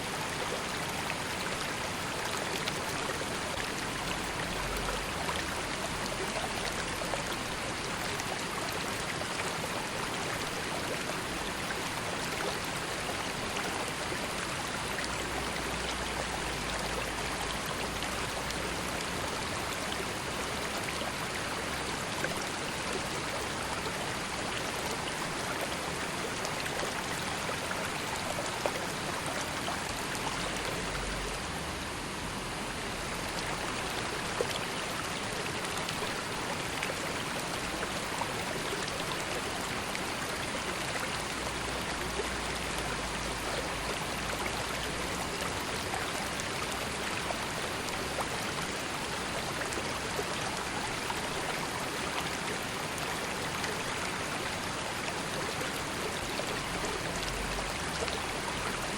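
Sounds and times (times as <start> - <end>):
river water rushing: 0.0 - 58.9
water splashes and trickles: 0.0 - 58.9.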